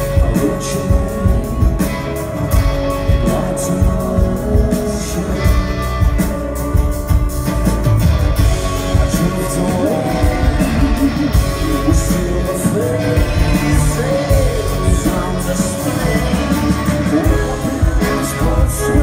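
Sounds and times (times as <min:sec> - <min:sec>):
man singing: 0:00.0 - 0:07.2, 0:08.6 - 0:19.0
electric and acoustic guitars: 0:00.0 - 0:19.0.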